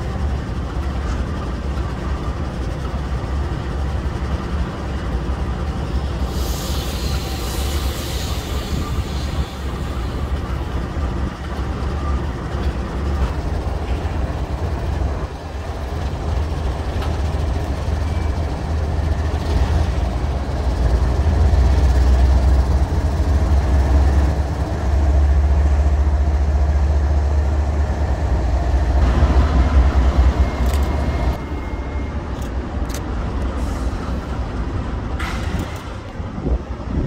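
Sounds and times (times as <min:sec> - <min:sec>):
train passing rumble: 0:00.0 - 0:37.0.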